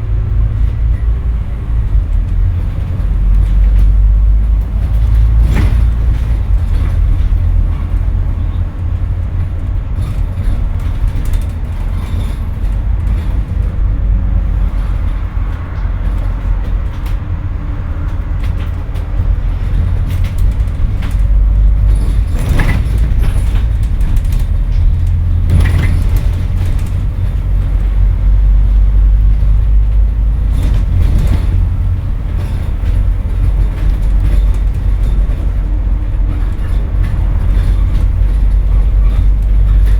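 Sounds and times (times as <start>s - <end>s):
bus body knocks and rattles: 0.0s - 39.9s
bus engine and road rumble: 0.0s - 39.9s.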